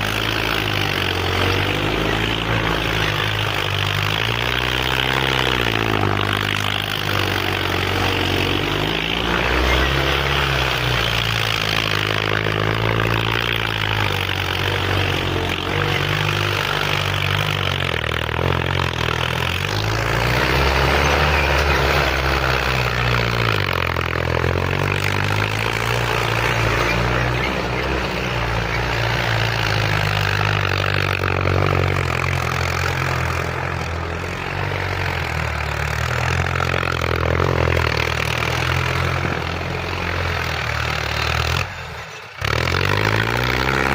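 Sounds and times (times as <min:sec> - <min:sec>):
tractor engine revving: 0:00.0 - 0:43.9.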